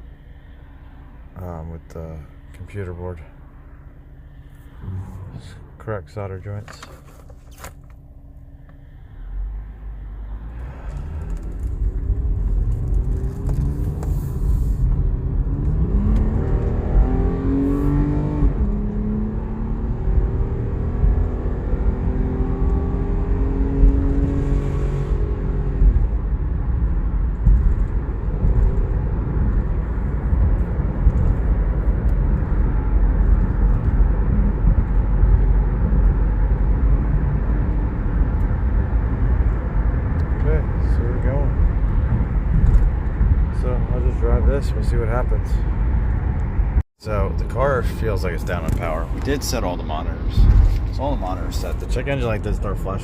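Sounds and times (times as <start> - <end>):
engine and road rumble: 0.0 - 53.0
car engine accelerating: 4.3 - 6.3, 9.2 - 53.0.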